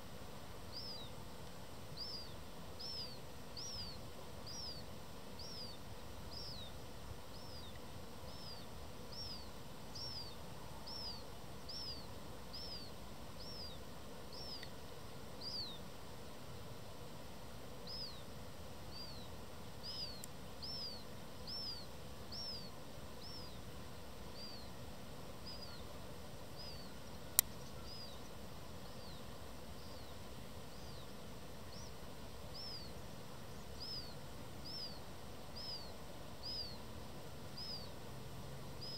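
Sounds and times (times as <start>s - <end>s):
background noise: 0.0s - 38.9s.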